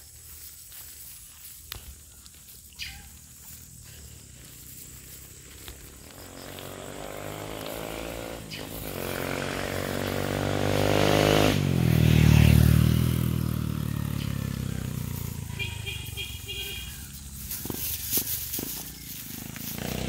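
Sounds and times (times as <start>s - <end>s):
motorcycle engine passing by: 3.1s - 20.0s.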